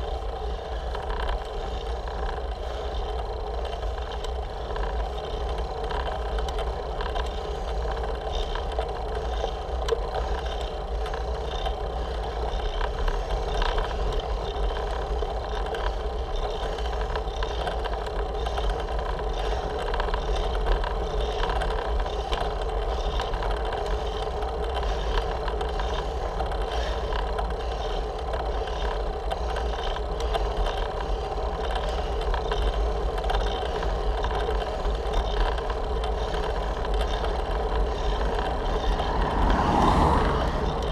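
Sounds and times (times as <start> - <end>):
wind and road vibration rumble: 0.0 - 40.9.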